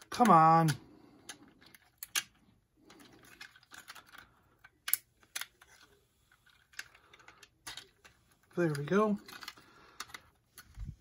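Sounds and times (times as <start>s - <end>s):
plastic toy parts clicking: 0.0s - 10.8s.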